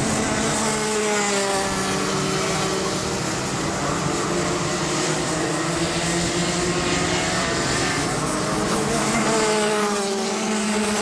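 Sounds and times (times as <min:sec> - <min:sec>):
kart engines racing: 0:00.0 - 0:11.0.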